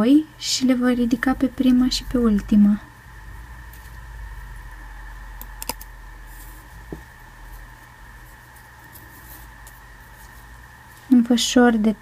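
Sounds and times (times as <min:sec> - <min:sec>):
steady faint hum: 0:00.0 - 0:12.0.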